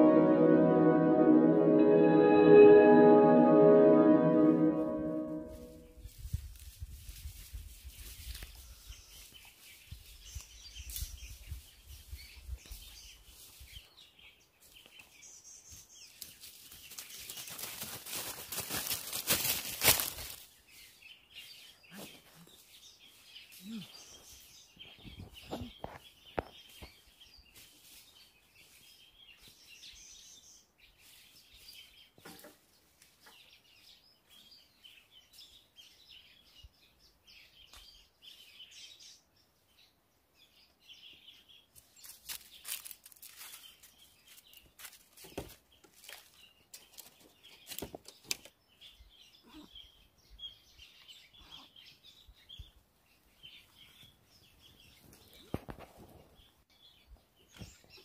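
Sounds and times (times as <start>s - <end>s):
small birds chirping: 5.9s - 58.0s.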